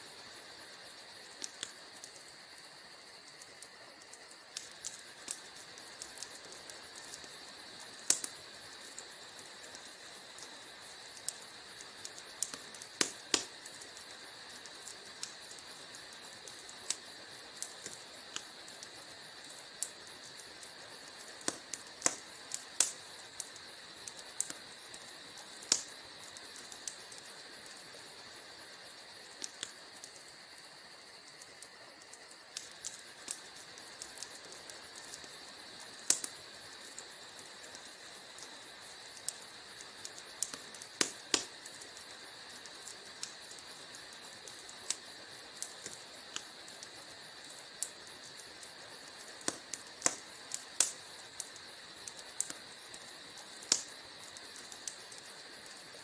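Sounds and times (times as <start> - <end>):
soft steady hiss: 0.0 - 56.0
wood fire crackling: 0.0 - 56.0.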